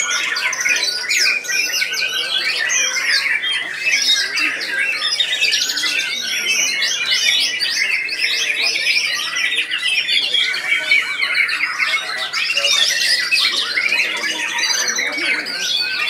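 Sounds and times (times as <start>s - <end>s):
birds singing: 0.0s - 16.0s.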